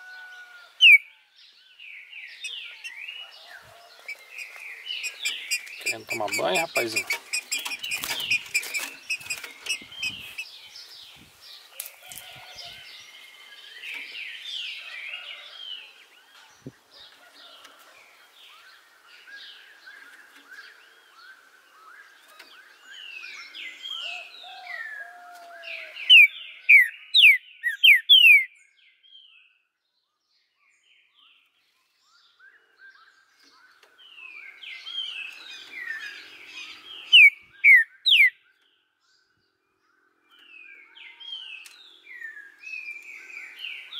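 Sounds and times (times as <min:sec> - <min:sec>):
soft bird chirps: 0:00.0 - 0:15.5, 0:18.5 - 0:43.9.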